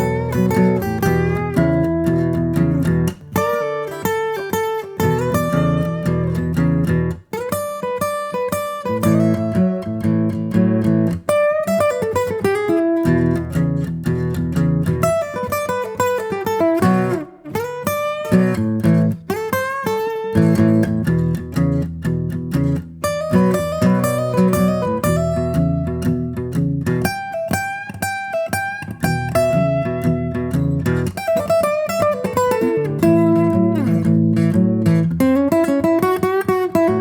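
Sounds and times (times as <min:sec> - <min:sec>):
acoustic guitar music: 0:00.0 - 0:37.0.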